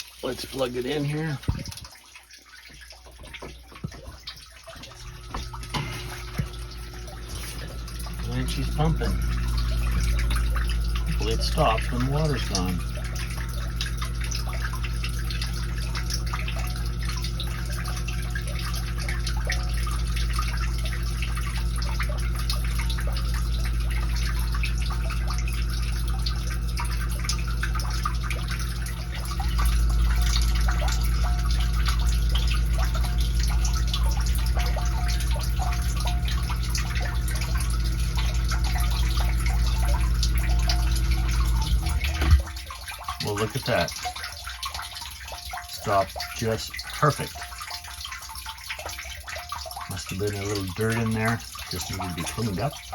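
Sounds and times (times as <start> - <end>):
pump motor hum: 0.0 - 52.9
water splashing: 0.0 - 52.9.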